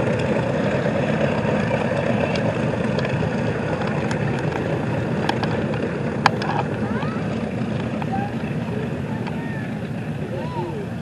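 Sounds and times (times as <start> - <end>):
bomber radial engines rumbling: 0.0 - 11.0.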